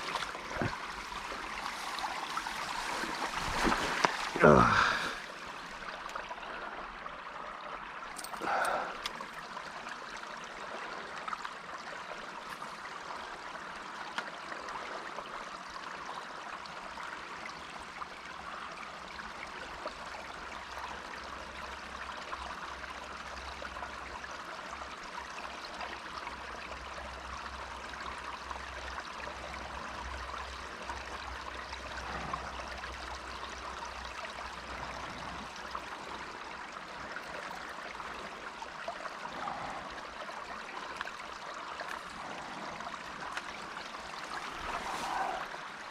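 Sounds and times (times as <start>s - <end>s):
creek water flowing: 0.0s - 45.9s.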